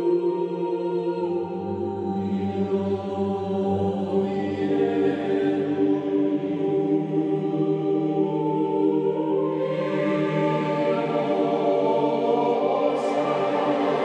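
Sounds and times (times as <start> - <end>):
choir holding sustained chords: 0.0 - 14.0.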